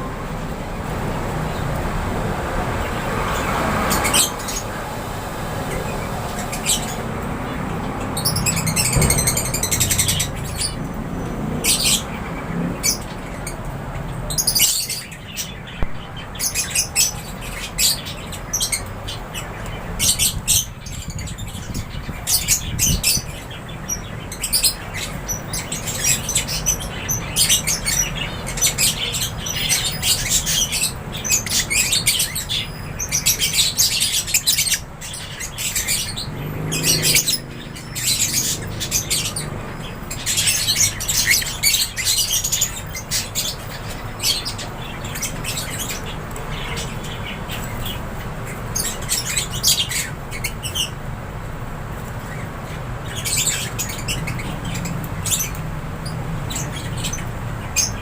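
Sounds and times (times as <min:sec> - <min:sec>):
lovebirds chirping: 0:00.0 - 0:51.0, 0:52.0 - 0:58.0.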